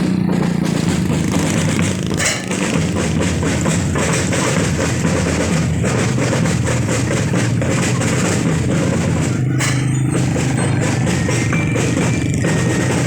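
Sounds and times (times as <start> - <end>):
bass drums beating: 0.0 - 13.0
marching drum band: 0.0 - 13.0
snare drums beating: 0.0 - 13.0.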